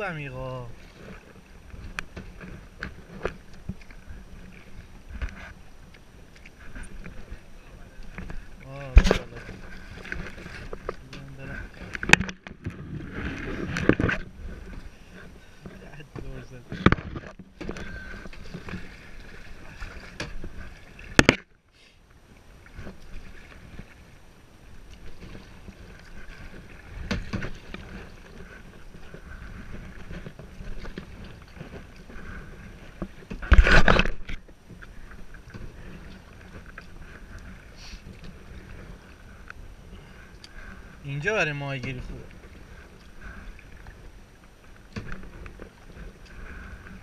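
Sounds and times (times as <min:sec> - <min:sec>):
water swishing around paddle: 0:00.0 - 0:47.0.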